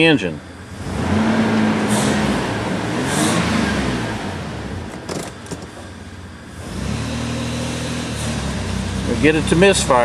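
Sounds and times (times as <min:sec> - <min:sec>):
engine under load: 0:00.5 - 0:10.0.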